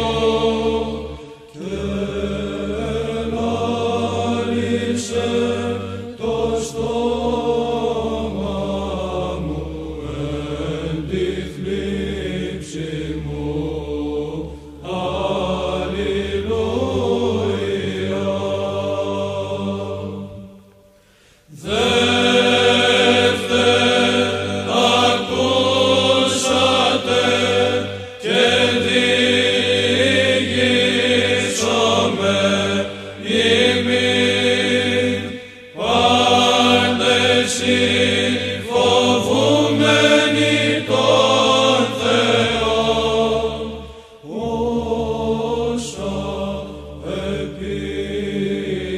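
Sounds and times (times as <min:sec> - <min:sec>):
low vocal drone: 0:00.0 - 0:20.6, 0:21.5 - 0:48.9
male choir chanting: 0:00.0 - 0:20.6, 0:21.5 - 0:48.9.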